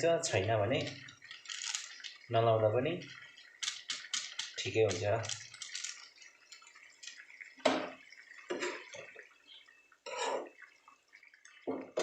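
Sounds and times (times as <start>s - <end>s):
gravy boiling in a pan: 0.0s - 12.0s.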